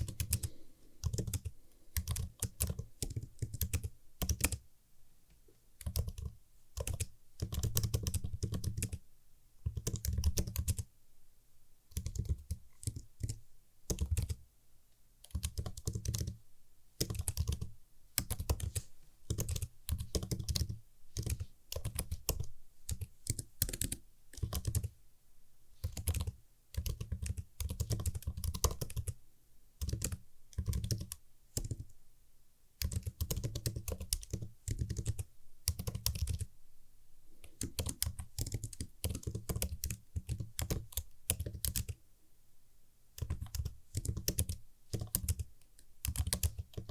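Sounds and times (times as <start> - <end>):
computer keyboard typing: 0.0 - 4.7, 5.8 - 9.0, 9.6 - 10.9, 11.9 - 14.4, 15.2 - 16.4, 17.0 - 25.0, 25.8 - 29.2, 29.8 - 32.0, 32.8 - 36.5, 37.4 - 42.0, 43.2 - 46.9.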